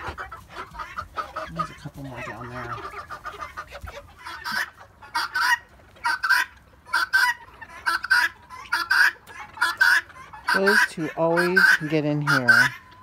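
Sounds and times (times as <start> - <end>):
guinea fowl calling: 0.0 - 13.0.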